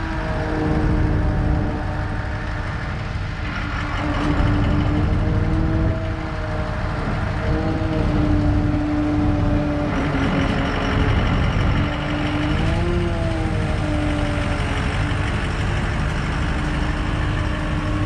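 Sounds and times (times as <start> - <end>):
hydraulic crane whine: 0.0 - 18.0
truck engine rumble: 0.0 - 18.0.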